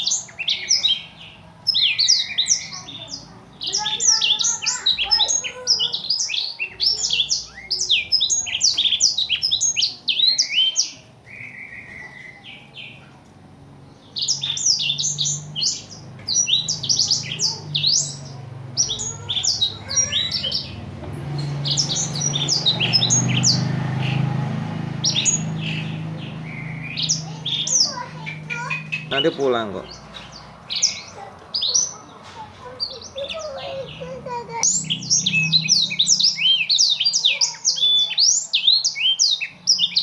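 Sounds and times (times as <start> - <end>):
canary singing chirps and trills: 0.0 - 40.0.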